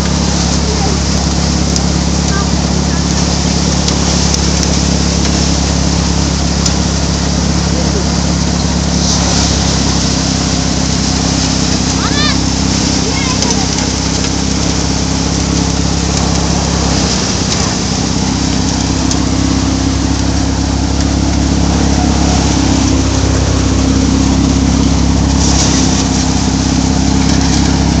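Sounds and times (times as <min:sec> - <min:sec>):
tractor engine drone: 0:00.0 - 0:28.0.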